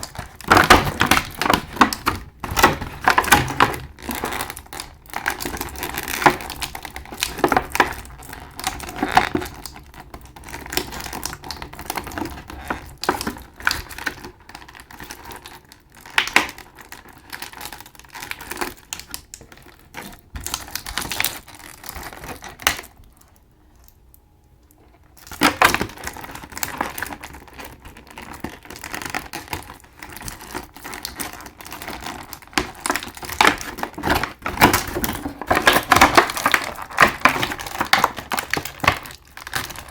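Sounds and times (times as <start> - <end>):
packaging crinkling: 0.0 - 24.0, 24.6 - 39.9.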